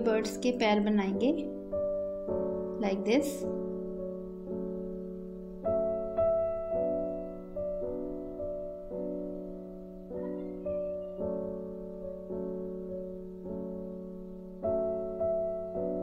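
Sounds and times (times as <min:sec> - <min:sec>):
gentle keyboard music: 0:00.0 - 0:16.0.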